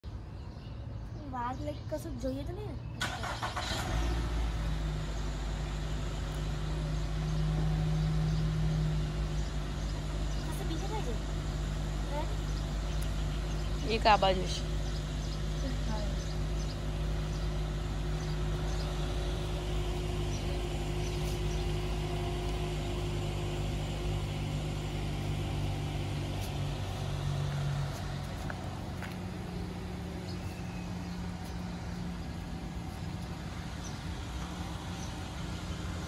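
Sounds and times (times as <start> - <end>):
low machinery hum: 0.1 - 36.0.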